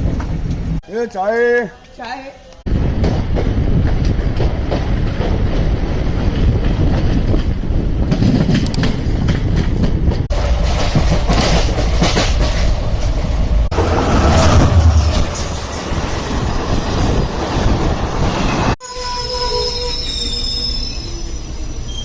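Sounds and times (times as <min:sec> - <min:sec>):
train rumbling on track: 0:00.0 - 0:00.9, 0:02.6 - 0:22.0.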